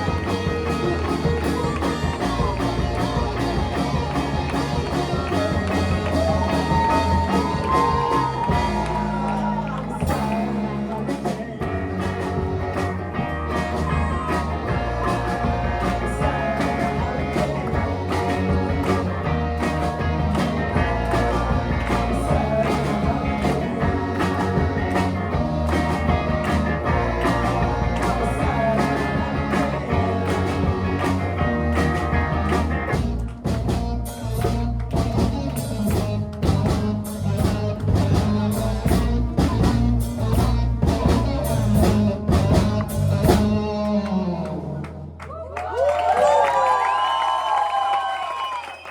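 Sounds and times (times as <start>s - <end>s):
rock band playing: 0.0s - 45.1s.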